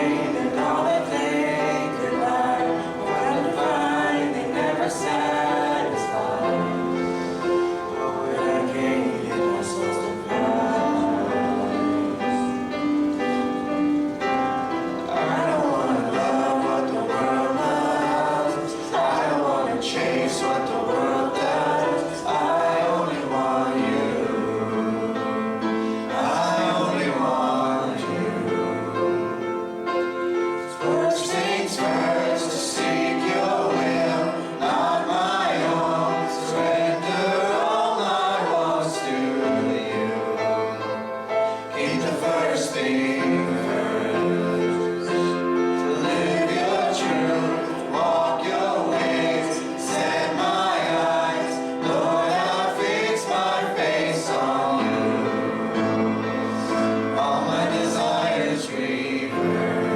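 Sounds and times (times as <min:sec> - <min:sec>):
congregation singing a hymn: 0:00.0 - 0:59.9
instrumental accompaniment: 0:00.0 - 0:59.9.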